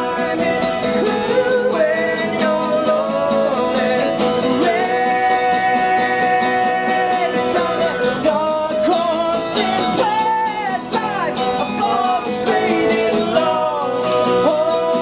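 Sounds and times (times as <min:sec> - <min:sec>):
country folk band playing: 0:00.0 - 0:15.0
gliding guitar lead melody: 0:00.0 - 0:15.0.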